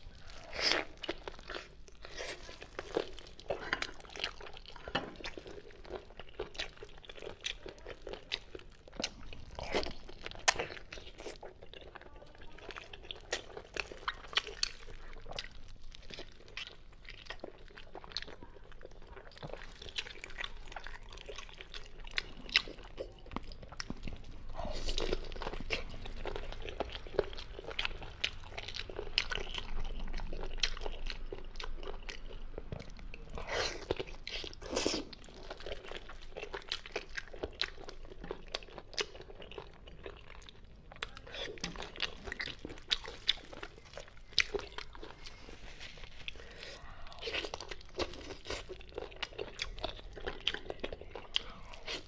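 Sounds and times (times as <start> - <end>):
chewing with crunches: 0.0 - 52.0.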